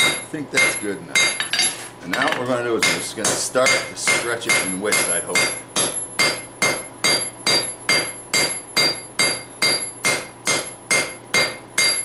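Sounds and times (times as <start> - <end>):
hammer striking steel on anvil: 0.0 - 12.0.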